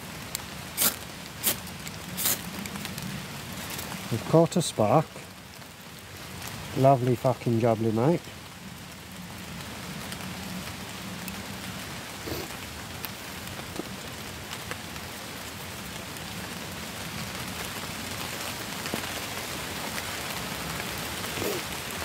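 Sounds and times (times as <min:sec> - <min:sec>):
heavy rain falling: 0:00.0 - 0:22.0
sharp rain taps: 0:00.0 - 0:22.0.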